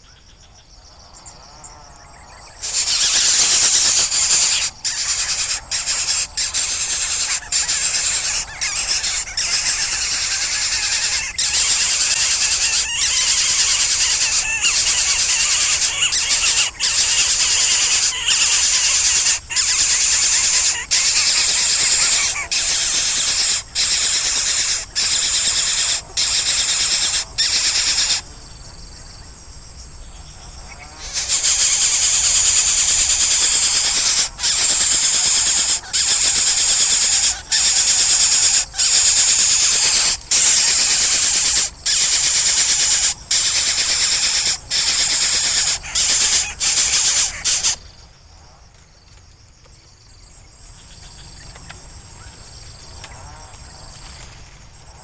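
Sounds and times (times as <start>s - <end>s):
shrill insect buzzing: 0.0s - 48.3s, 49.0s - 55.0s.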